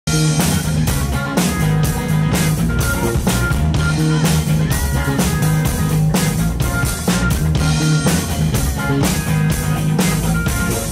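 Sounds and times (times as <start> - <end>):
drum kit steady beat: 0.1 - 10.9
electric guitar: 0.1 - 10.9.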